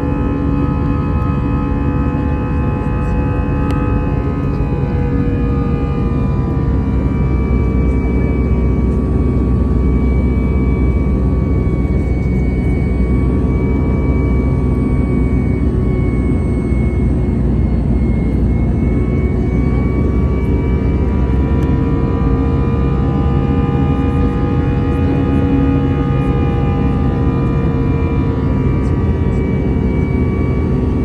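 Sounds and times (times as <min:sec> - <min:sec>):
jet engine cabin hum: 0:00.0 - 0:31.0
whining engine tones: 0:00.0 - 0:31.0.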